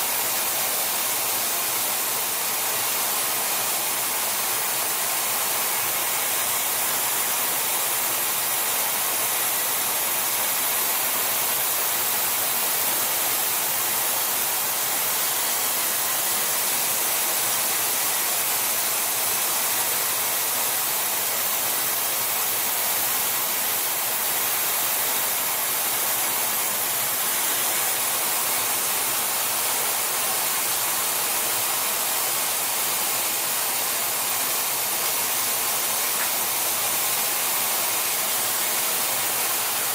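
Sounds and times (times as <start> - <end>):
metal-spray gun hissing: 0.0 - 39.9.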